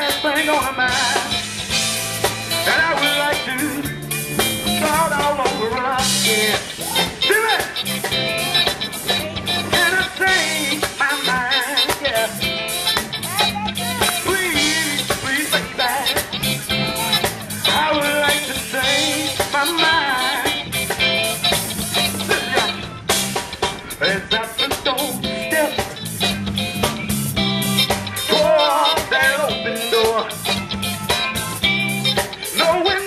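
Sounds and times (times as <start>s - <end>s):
man singing: 0.0s - 1.6s, 2.5s - 23.0s, 23.7s - 26.0s, 28.2s - 33.0s
blues band playing: 0.0s - 33.0s.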